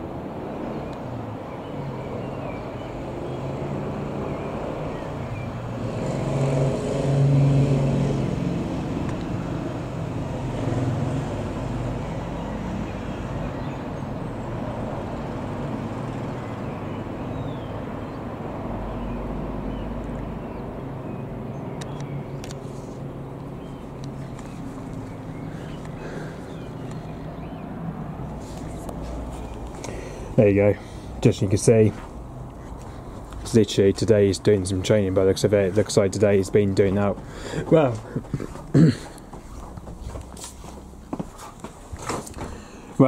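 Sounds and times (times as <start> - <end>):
turboprop plane flying past: 0.0 - 34.6.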